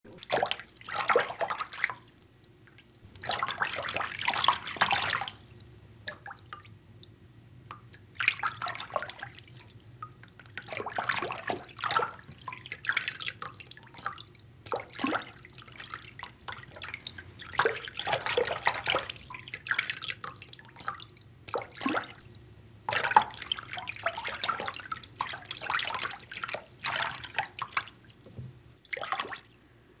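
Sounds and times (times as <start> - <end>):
water sloshing in a bathtub: 0.0 - 30.0
water dripping: 0.1 - 30.0.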